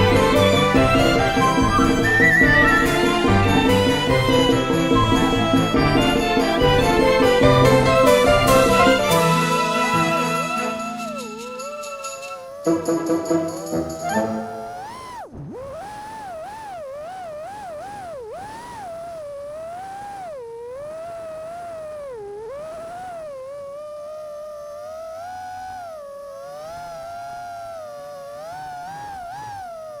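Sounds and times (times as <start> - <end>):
racing drone motors whining: 0.0 - 30.0.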